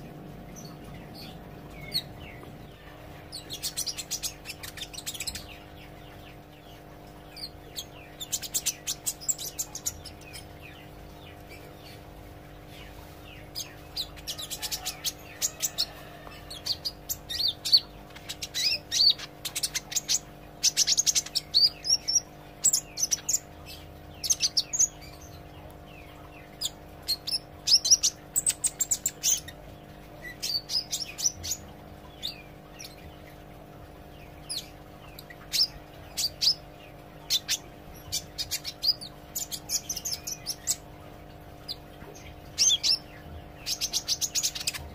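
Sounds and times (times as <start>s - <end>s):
bird chirping and trilling: 0.0s - 44.9s
faint steady hum: 0.0s - 44.9s.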